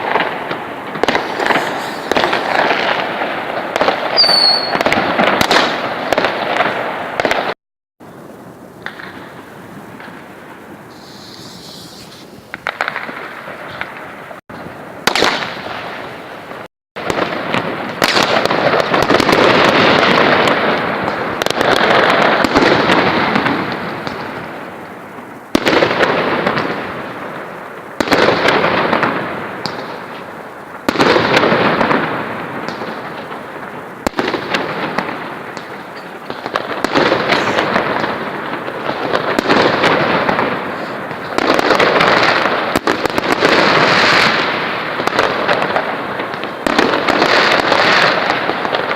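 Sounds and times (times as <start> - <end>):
fireworks crackling and banging: 0.0 - 48.9.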